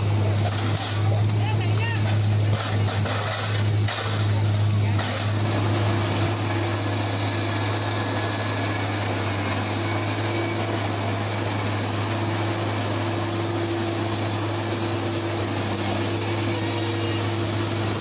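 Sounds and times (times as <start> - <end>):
machine engine and fan drone: 0.0 - 18.0.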